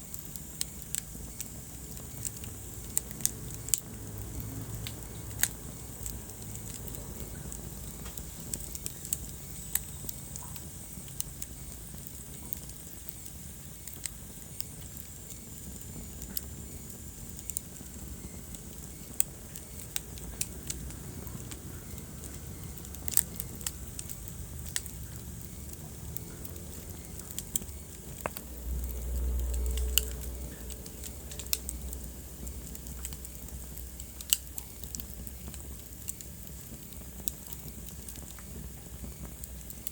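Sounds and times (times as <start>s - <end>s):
low rush of flame: 0.0s - 39.9s
wood fire crackling and popping: 0.0s - 39.9s.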